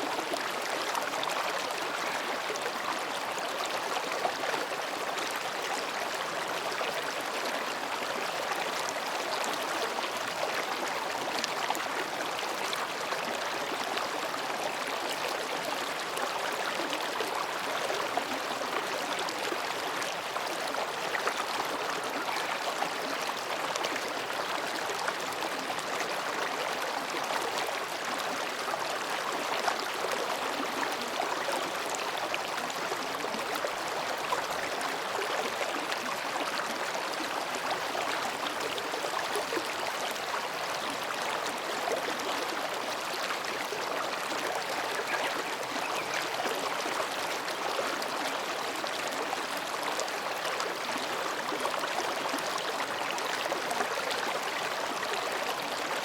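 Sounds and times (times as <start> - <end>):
stream babbling over rocks: 0.0 - 56.0.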